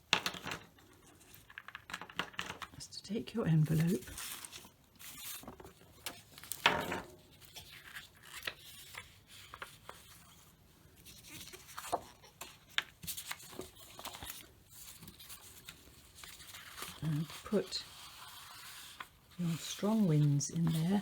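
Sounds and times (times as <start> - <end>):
paper and plastic sheets rustling: 3.5 - 21.0.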